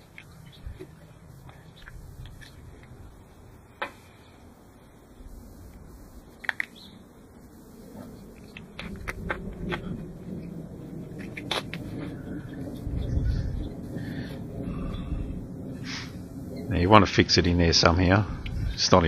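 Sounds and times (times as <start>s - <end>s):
low background rumble: 0.0s - 18.9s.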